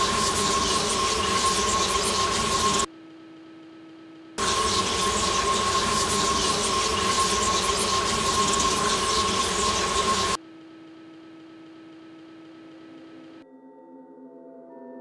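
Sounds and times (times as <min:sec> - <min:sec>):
steady high ringing tone: 0:00.0 - 0:15.0.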